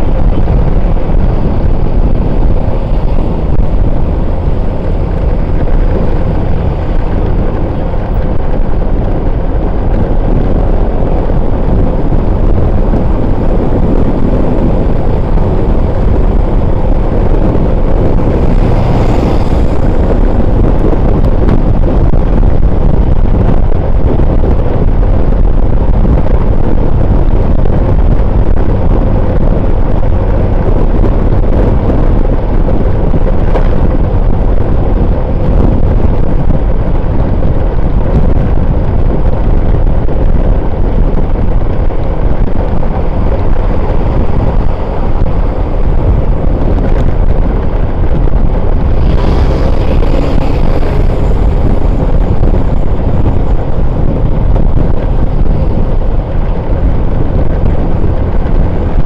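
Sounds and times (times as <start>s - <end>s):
vehicle rumbling on road: 0.0s - 59.0s
wind buffeting microphone: 0.0s - 59.0s.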